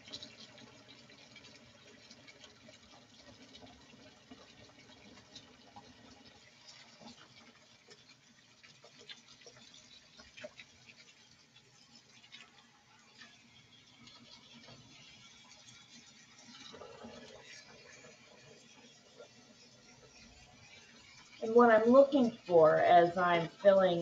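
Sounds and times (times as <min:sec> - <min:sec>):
faucet running into sink: 0:00.0 - 0:24.0
water spattering and dripping: 0:00.0 - 0:24.0.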